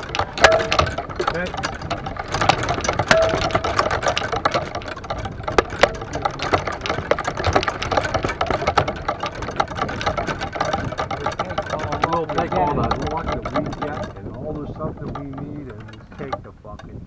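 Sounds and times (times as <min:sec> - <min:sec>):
golf clubs rattling in bag: 0:00.0 - 0:17.0.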